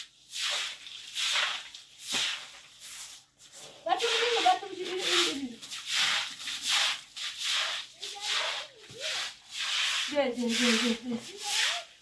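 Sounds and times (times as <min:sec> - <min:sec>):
broom sweeping wet concrete: 0:00.0 - 0:12.0.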